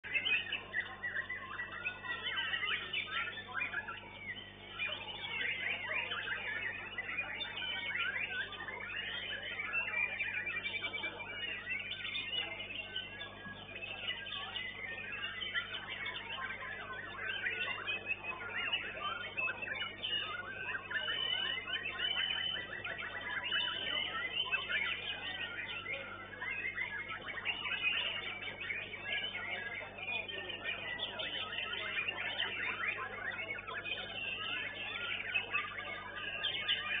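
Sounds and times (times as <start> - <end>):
bird singing whistled phrases: 0.0 - 37.0.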